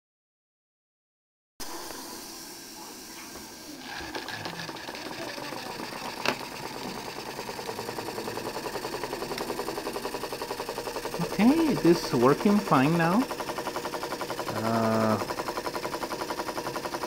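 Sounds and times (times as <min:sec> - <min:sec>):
model steam engine beating: 0:02.4 - 0:17.0.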